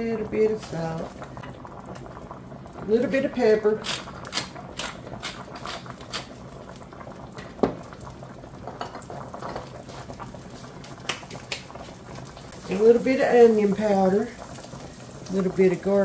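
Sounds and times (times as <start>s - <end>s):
pot boiling and bubbling: 0.0s - 16.0s.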